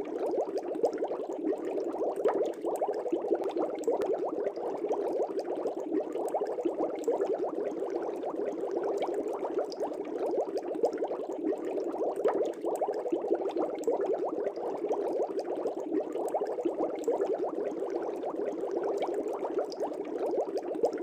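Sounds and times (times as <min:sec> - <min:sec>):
aquarium air bubbles bubbling: 0:00.0 - 0:21.0.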